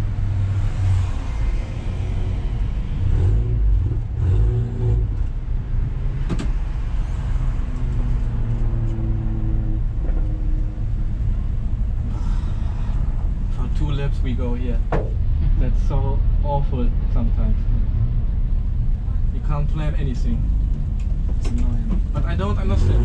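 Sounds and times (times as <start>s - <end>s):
car engine rumbling at low revs: 0.0s - 23.0s.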